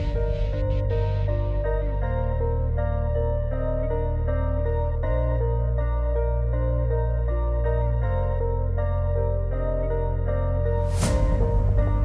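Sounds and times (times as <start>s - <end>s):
calm keyboard music with bass: 0.0s - 12.0s.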